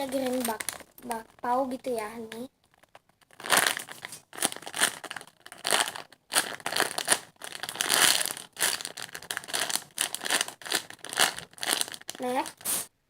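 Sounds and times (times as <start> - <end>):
plastic crinkling: 0.0 - 12.9.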